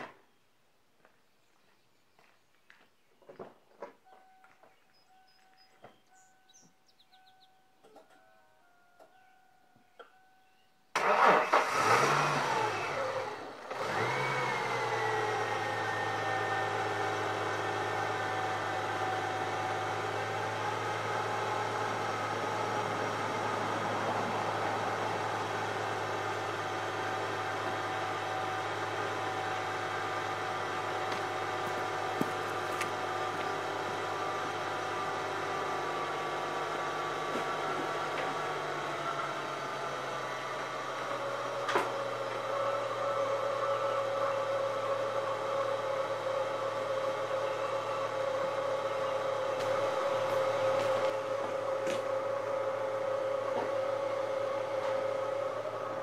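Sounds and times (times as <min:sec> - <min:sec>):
car engine starting and idling: 0:10.9 - 0:56.0.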